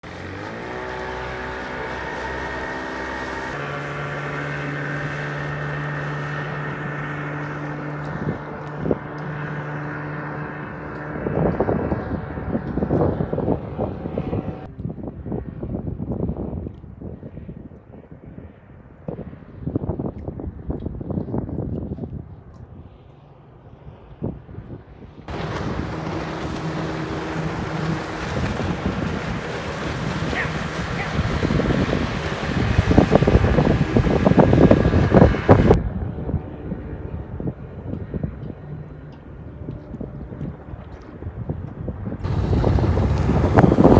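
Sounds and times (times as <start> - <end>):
water rushing past hull: 0.0 - 15.6, 20.4 - 43.9
outboard motor running: 0.0 - 43.9
wind buffeting microphone: 0.0 - 43.9.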